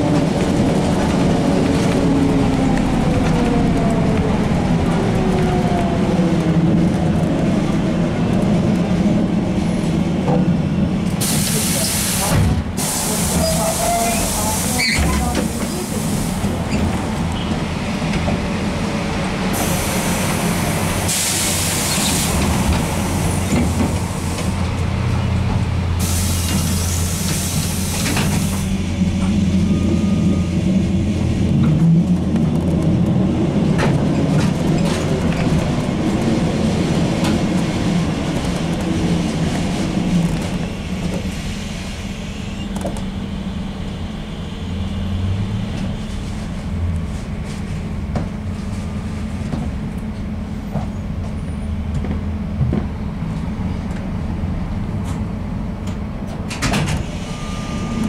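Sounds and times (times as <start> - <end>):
trolleybus running hum: 0.0 - 58.0.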